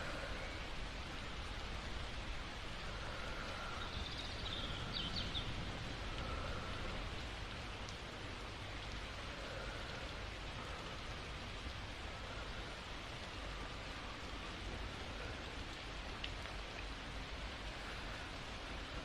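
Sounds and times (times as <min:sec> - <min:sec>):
soft slow breathing: 0:00.0 - 0:01.8, 0:02.4 - 0:19.0
steady rain falling: 0:00.0 - 0:19.0.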